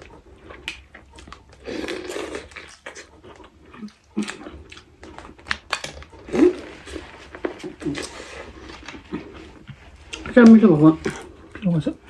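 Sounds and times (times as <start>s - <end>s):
seafood being chewed and slurped: 0.0s - 12.0s.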